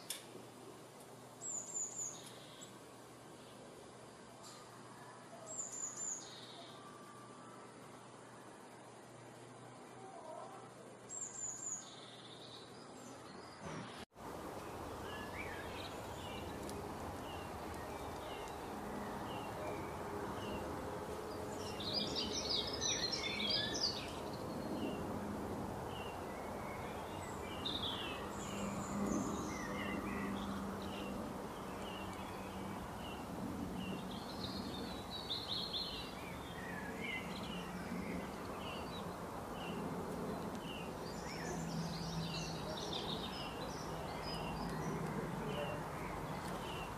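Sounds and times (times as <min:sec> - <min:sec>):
outdoor background hiss: 0:00.0 - 0:46.9
songbirds chirping and singing: 0:01.1 - 0:25.2, 0:25.8 - 0:46.9.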